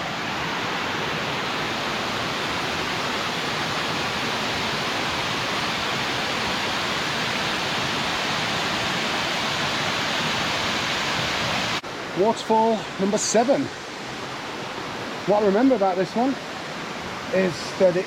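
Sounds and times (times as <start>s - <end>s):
waterfall pouring over rocks: 0.0s - 18.0s.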